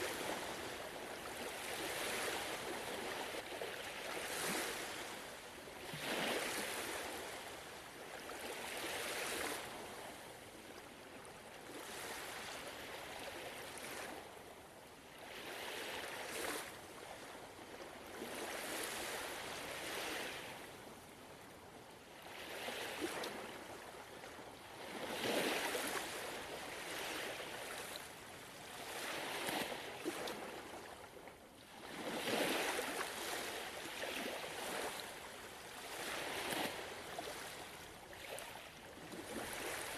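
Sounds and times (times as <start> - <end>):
ocean waves washing ashore: 0.0 - 10.2, 15.1 - 21.1, 22.2 - 39.9.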